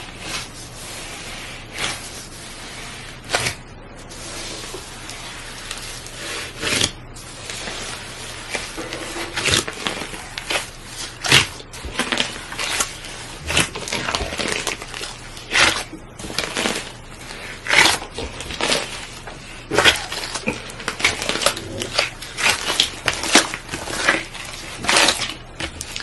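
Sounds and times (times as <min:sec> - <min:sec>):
slime being kneaded: 0:00.0 - 0:26.0.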